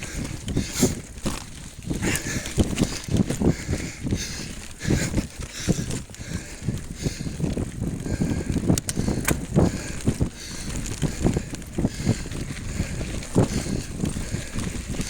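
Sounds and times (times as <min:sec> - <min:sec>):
bike rattling over dirt: 0:00.0 - 0:15.0
wind on the microphone: 0:00.0 - 0:15.0.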